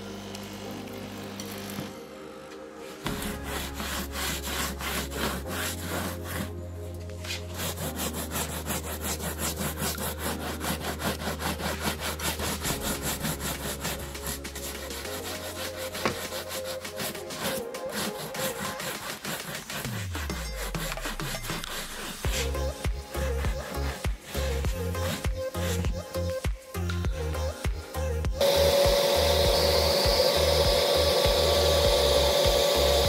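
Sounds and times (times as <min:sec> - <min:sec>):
brush scrubbing fabric upholstery: 0:02.9 - 0:26.3, 0:28.4 - 0:33.0
background music with bass line: 0:03.0 - 0:19.1, 0:19.8 - 0:33.0.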